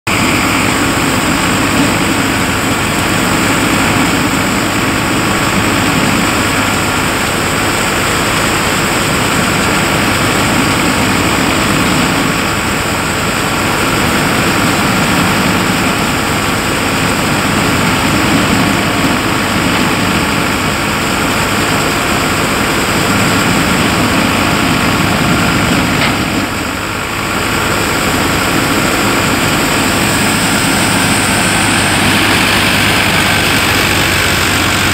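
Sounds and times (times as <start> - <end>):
tractor engine: 0.0 - 34.9
thresher drone: 0.1 - 34.9.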